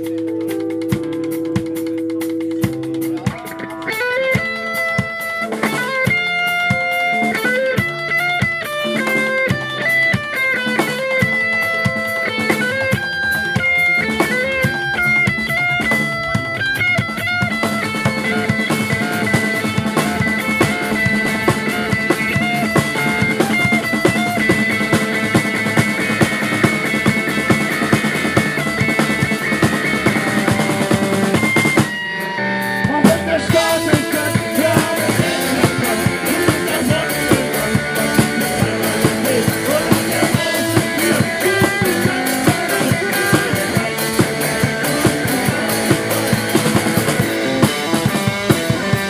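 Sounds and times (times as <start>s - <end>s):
drum kit: 0.0s - 49.0s
plucked guitar melody: 0.0s - 49.0s
rock band playing: 0.0s - 49.0s.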